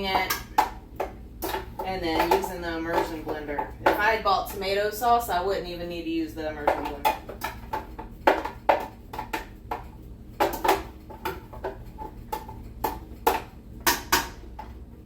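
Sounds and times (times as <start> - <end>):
utensil knocking on metal pot: 0.0 - 4.3, 6.6 - 14.7.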